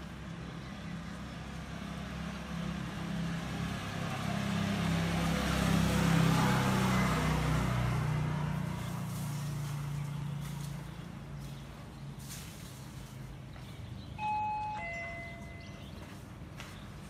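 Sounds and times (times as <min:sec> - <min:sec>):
vehicle passing on road: 0:00.0 - 0:17.0.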